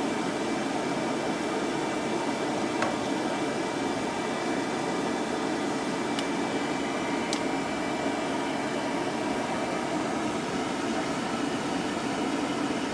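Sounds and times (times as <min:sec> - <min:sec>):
hair dryer blowing: 0:00.0 - 0:12.9.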